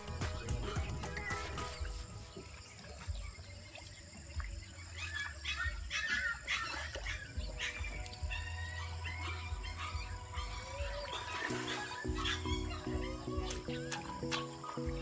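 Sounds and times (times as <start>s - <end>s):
birds chirping: 0.0s - 15.0s
faint background music: 0.0s - 15.0s.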